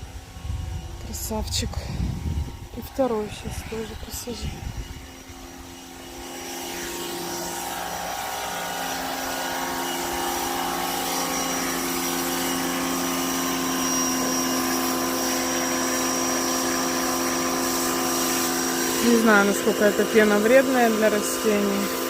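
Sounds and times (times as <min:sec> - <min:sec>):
carpet cleaner motor whining: 0:00.0 - 0:22.0.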